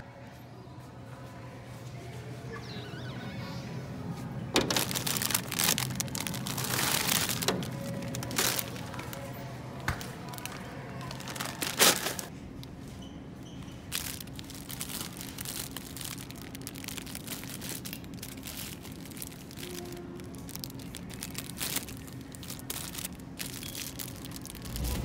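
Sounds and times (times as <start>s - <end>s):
faint low hum: 0.0s - 25.0s
crinkling handling noise: 4.1s - 13.0s, 13.6s - 25.0s.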